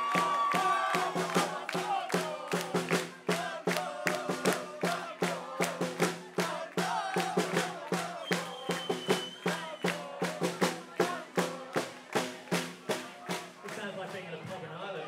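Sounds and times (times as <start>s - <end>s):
fast steady drum beat: 0.0s - 14.5s.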